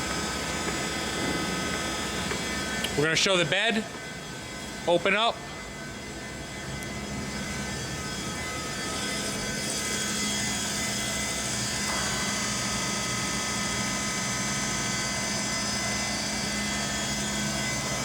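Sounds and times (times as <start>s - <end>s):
lathe running with whining drone: 0.0s - 18.0s.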